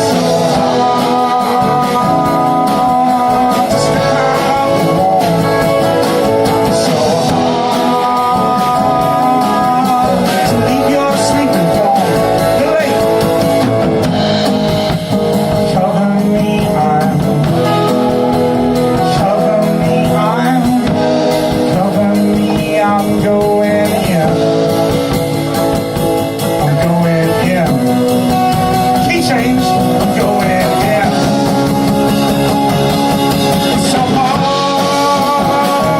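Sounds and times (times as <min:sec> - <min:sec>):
folk band playing: 0:00.0 - 0:35.9
guitar: 0:00.0 - 0:35.9
person singing: 0:00.0 - 0:35.9.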